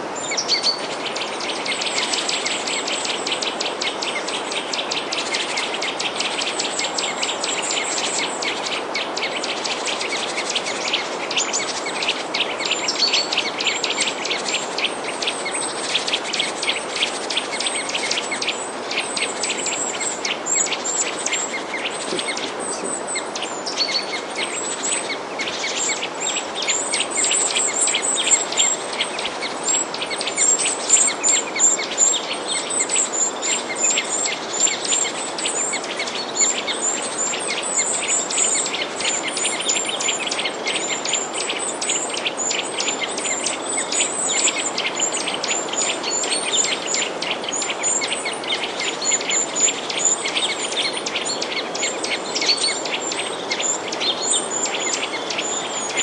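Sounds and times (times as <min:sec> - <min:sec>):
small birds chirping: 0:00.0 - 0:56.0
steady background hiss: 0:00.0 - 0:56.0.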